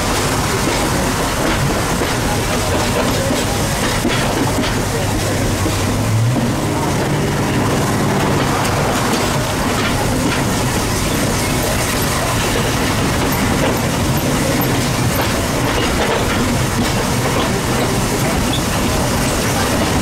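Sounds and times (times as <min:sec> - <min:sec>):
steam train running: 0:00.0 - 0:20.0.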